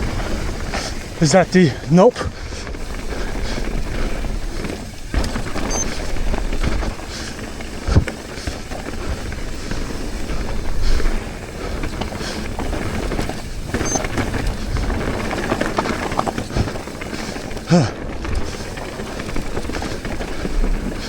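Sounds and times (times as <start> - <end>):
bike rattling over ground: 0.0 - 21.0
tyre and wind rush: 0.0 - 21.0.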